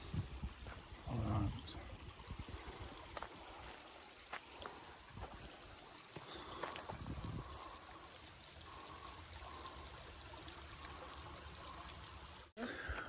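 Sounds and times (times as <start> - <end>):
creek trickling: 0.0 - 13.0.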